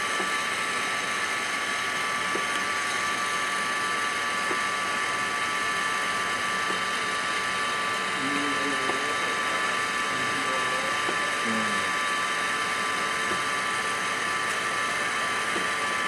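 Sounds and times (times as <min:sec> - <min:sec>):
mechanical drone with whining tones: 0:00.0 - 0:16.0.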